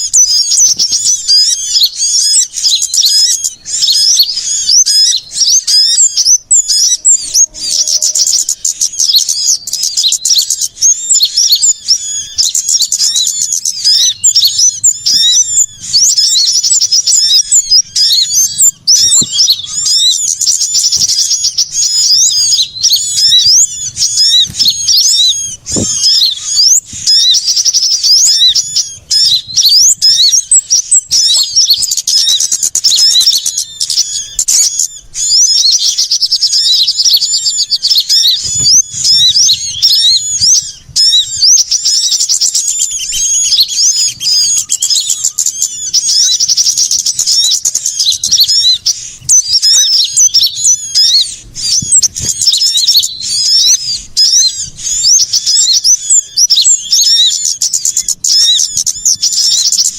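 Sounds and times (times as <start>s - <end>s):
small songbirds twittering: 0.0s - 59.9s.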